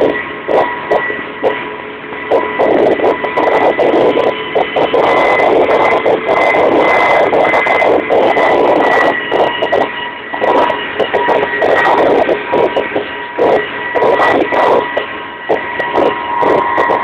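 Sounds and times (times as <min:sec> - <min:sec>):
helicopter engine drone: 0:00.0 - 0:17.0
thin whine: 0:00.0 - 0:17.0.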